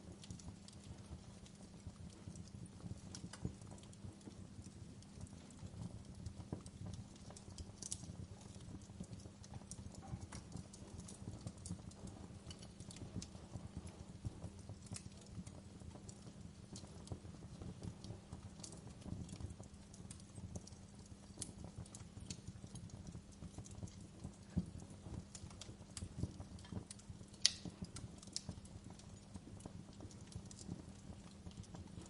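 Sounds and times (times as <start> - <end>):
fireplace crackling: 0.0 - 32.0.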